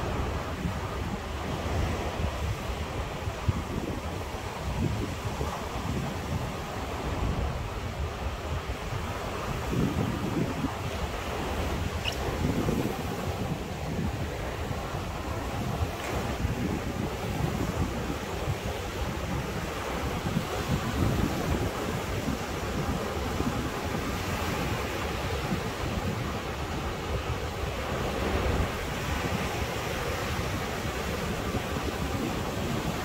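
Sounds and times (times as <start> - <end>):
ocean waves surging: 0.0 - 33.0
wind blowing across microphone: 0.0 - 33.0.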